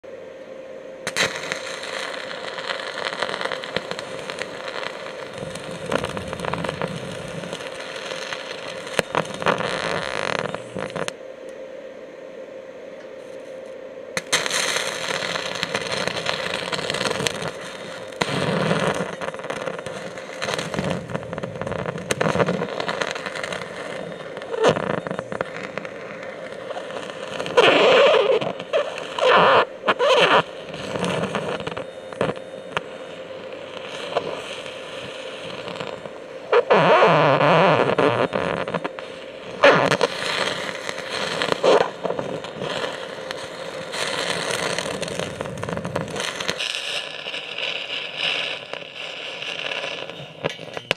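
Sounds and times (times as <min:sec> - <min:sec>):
welder hum: 0:00.0 - 0:50.9
arc torch crackling hiss: 0:01.0 - 0:11.2, 0:13.2 - 0:50.9.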